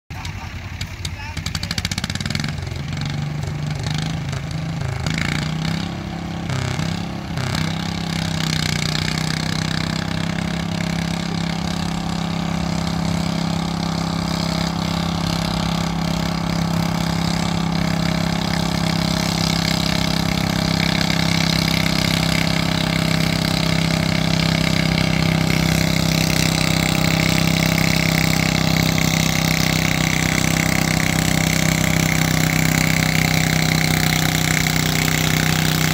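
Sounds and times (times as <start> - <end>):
tractor engine running under load: 0.1 - 35.9.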